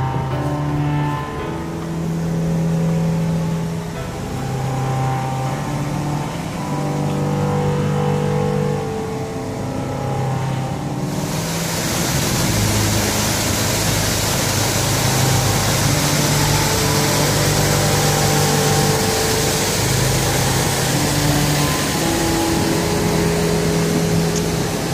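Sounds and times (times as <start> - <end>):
boat motor running: 0.0 - 24.9.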